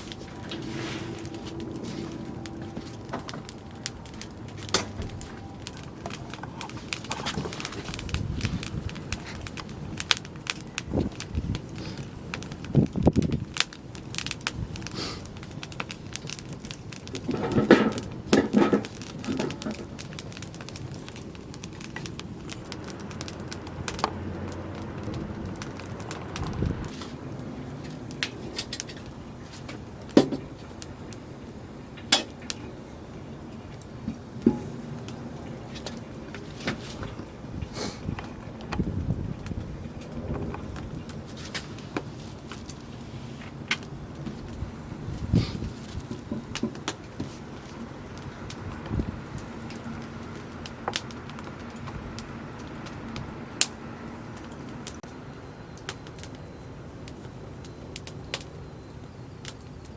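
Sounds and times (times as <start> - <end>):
campfire hissing: 0.0 - 59.9
fire cracking and popping: 0.0 - 59.9.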